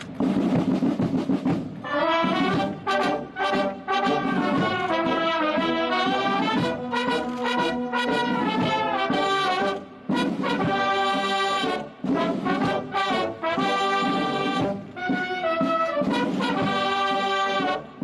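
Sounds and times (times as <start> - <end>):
military brass band playing: 0.0 - 18.0.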